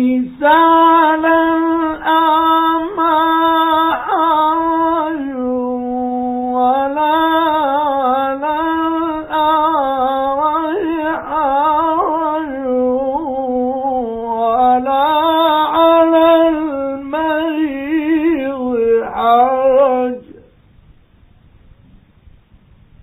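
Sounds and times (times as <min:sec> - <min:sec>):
man reciting melodically: 0:00.0 - 0:20.5.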